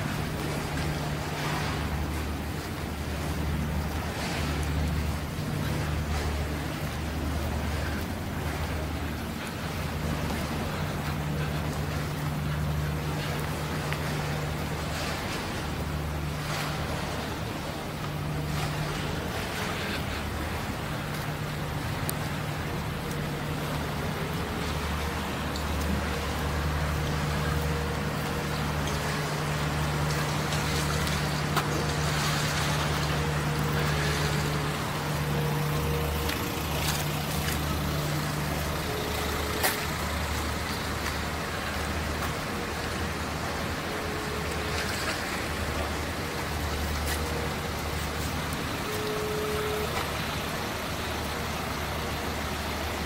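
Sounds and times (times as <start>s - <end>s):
humming tone: 0.0s - 53.0s
low engine hum: 0.0s - 53.0s.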